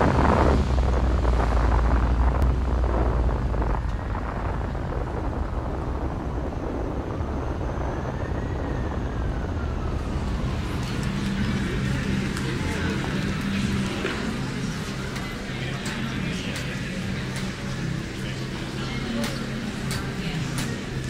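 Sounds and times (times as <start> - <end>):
gusty noise: 0.0 - 18.9
passing road traffic rumble: 0.0 - 21.0.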